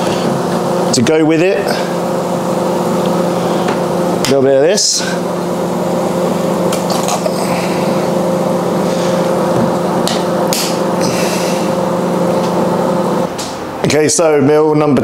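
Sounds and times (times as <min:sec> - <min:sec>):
kitchen appliance humming: 0:00.0 - 0:13.9.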